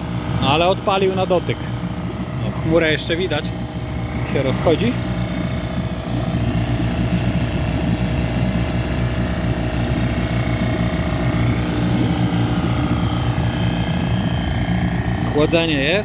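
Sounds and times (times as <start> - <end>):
outboard motor running: 0.0 - 16.0
water churning: 0.0 - 16.0.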